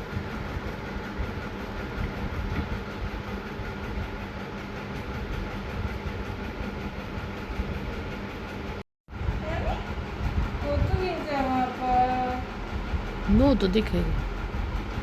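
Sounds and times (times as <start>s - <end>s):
constant hum: 0.0s - 15.0s
mechanical rumble: 0.0s - 15.0s.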